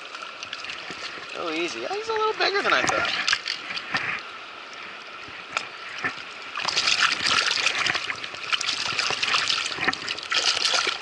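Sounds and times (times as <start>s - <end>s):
water splashing from hooked fish: 0.0s - 4.0s, 5.6s - 11.0s.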